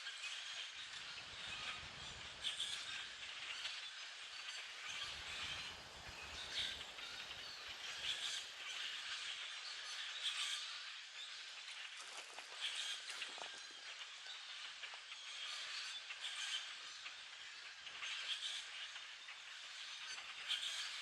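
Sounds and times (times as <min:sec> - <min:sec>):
flock of birds chattering: 0:00.0 - 0:21.0.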